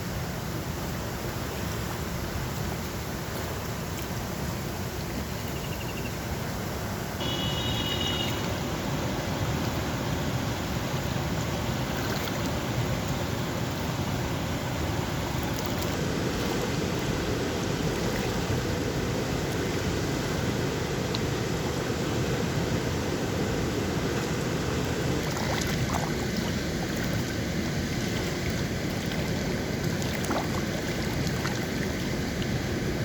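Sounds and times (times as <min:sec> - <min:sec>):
water rushing through sluice gate: 0:00.1 - 0:05.6, 0:06.2 - 0:33.0.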